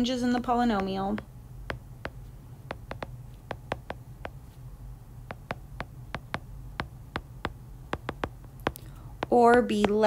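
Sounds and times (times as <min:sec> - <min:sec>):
stylus tapping on glass screen: 0:00.2 - 0:04.5, 0:05.2 - 0:10.0.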